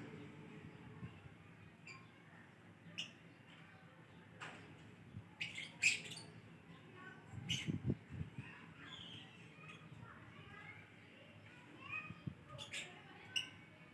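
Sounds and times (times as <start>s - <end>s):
soft bird chirps: 0.0s - 10.7s, 11.4s - 13.7s.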